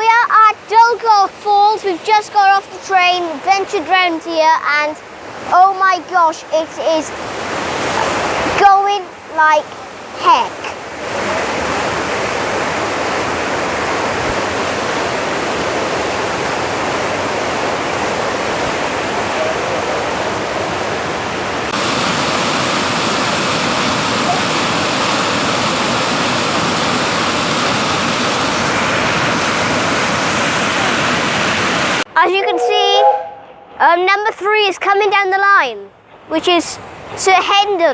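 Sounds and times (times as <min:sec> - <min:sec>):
waterfall rushing: 0:00.0 - 0:32.1.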